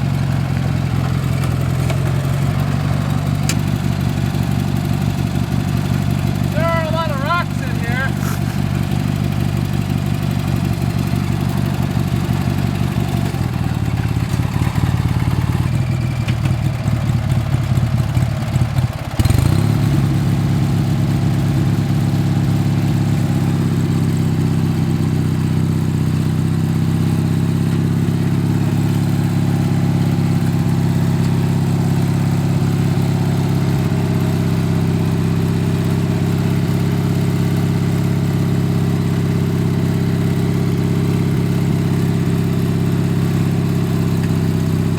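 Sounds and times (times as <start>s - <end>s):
lawn tractor engine running: 0.0s - 44.9s.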